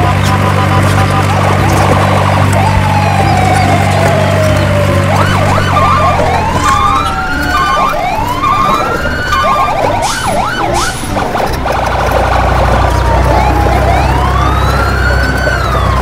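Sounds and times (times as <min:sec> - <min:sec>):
background music with bass: 0:00.0 - 0:16.0
electronic siren wails and yelps: 0:00.0 - 0:16.0.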